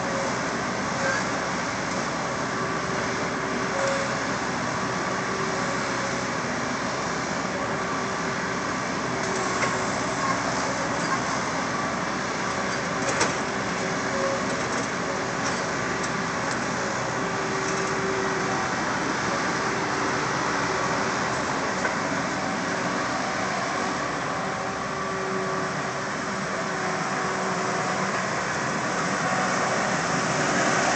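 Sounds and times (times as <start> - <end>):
loader engine running: 0.0 - 30.9.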